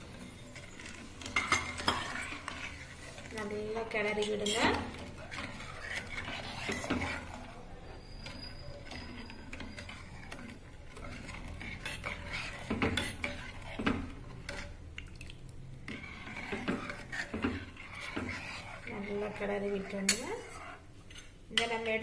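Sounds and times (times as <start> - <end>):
ladle scraping and clinking in pot: 0.0 - 22.0.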